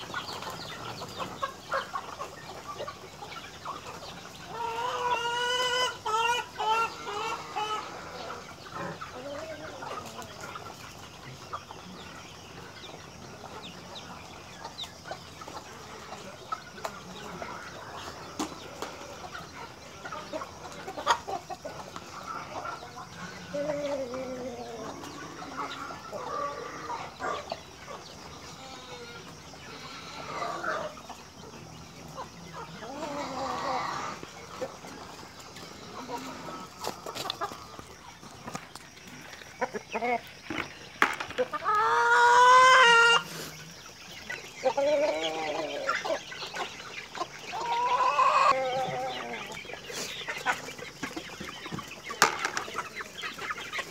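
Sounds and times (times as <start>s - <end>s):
chickens clucking and calling: 0.0s - 53.9s.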